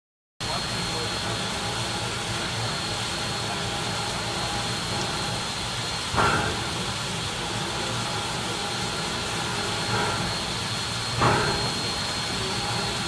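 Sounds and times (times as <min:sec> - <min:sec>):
steam locomotive hissing: 0:00.4 - 0:13.0
sudden burst of steam: 0:00.4 - 0:13.0.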